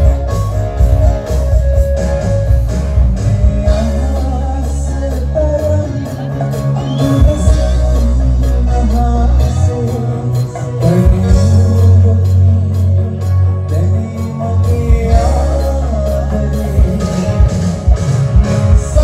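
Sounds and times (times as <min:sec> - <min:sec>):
bass notes: 0:00.0 - 0:19.0
drum kit: 0:00.0 - 0:19.0
guitar: 0:00.0 - 0:19.0
man singing: 0:02.4 - 0:19.0.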